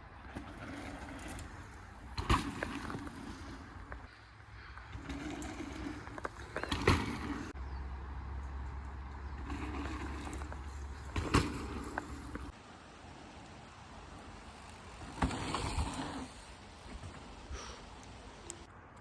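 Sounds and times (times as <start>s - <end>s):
bicycle tyres on dirt trail: 0.0s - 18.8s.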